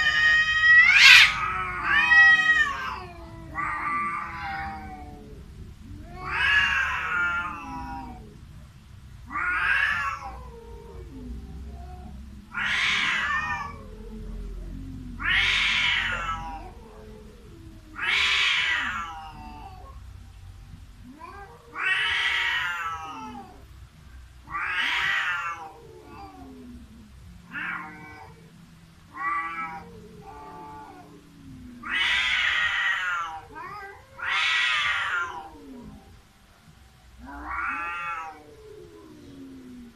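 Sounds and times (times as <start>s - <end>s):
cats yowling: 0.0s - 8.4s, 9.2s - 36.4s, 37.2s - 39.9s.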